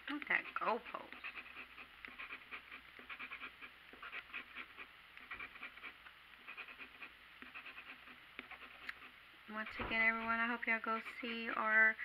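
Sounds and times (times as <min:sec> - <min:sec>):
coin scratching lottery ticket: 0:00.1 - 0:11.8.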